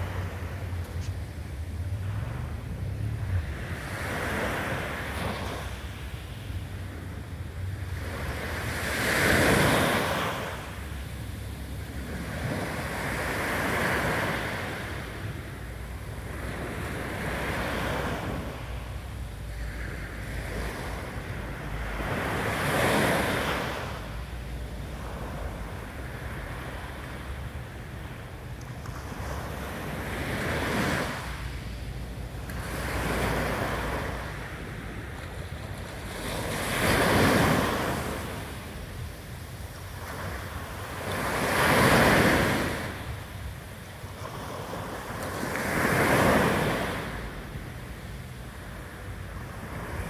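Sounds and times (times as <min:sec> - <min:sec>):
small waves washing up beach: 0:00.0 - 0:50.0.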